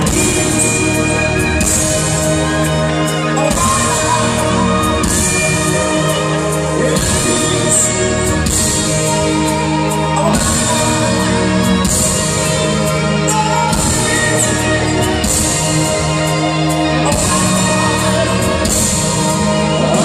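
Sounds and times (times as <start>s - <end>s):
live pop band playing: 0.0s - 20.0s
person singing: 0.0s - 20.0s.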